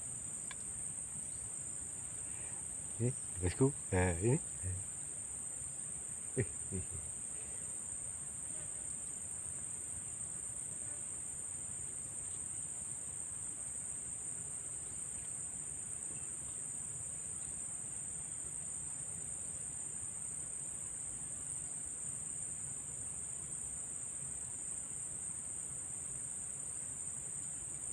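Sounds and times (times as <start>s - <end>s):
high-pitched insect chorus: 0.0s - 27.9s.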